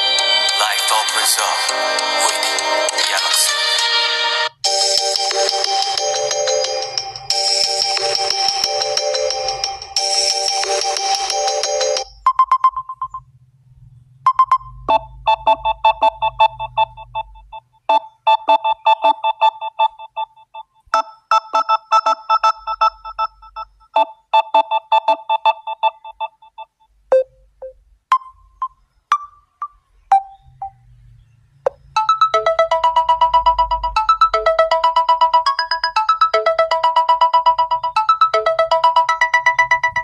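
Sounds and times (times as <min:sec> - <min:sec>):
phone ringtone melody: 0:00.0 - 0:13.3, 0:14.3 - 0:30.9, 0:31.7 - 0:40.0
ringtone of fast repeating notes: 0:00.0 - 0:13.3, 0:14.2 - 0:30.8, 0:31.7 - 0:40.0.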